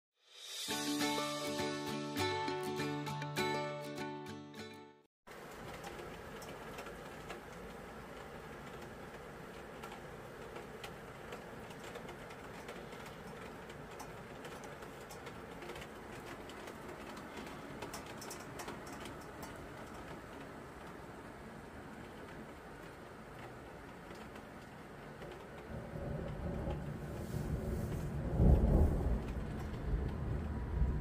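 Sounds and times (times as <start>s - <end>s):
rain falling: 5.3s - 31.0s
sharp ticks of rain: 5.3s - 31.0s.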